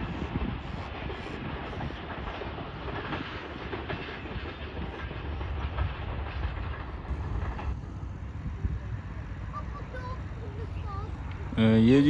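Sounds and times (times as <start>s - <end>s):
train rumbling: 0.0s - 12.0s
wheels clicking over rail joints: 0.0s - 12.0s.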